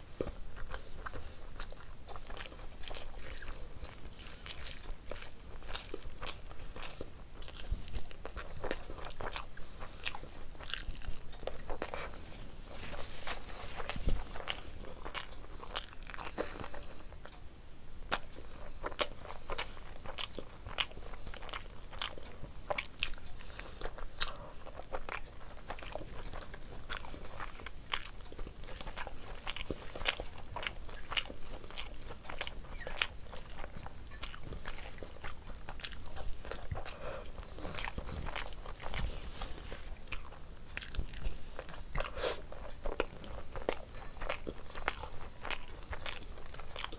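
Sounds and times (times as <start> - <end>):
wet chewing and lip smacking: 0.0 - 17.5, 18.1 - 46.9.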